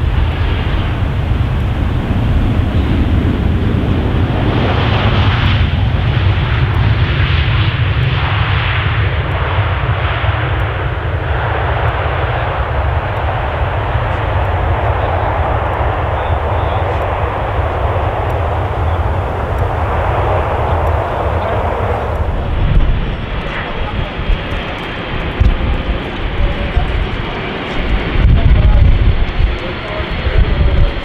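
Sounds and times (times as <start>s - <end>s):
aircraft engines roaring: 0.0s - 31.0s.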